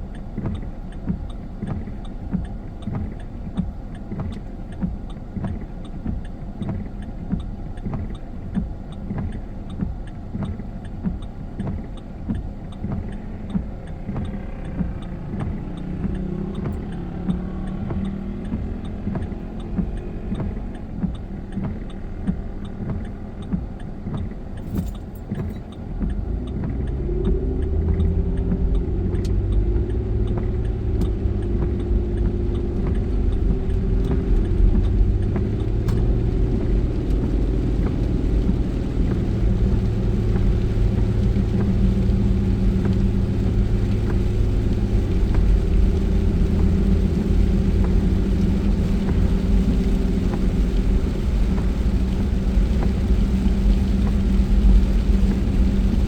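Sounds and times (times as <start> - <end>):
car driving interior: 0.0 - 56.0
regular ticking: 0.0 - 56.0.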